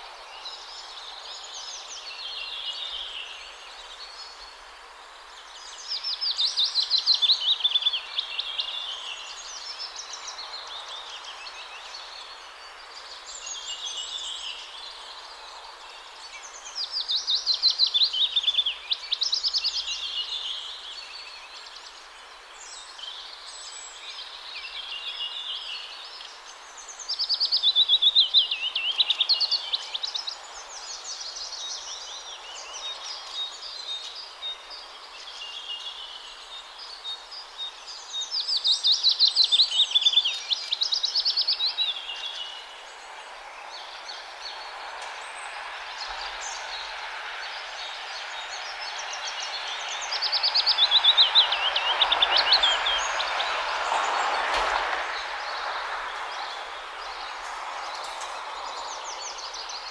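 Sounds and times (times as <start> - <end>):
distant traffic hiss: 0.0 - 59.9
songbirds singing quietly: 0.0 - 59.9.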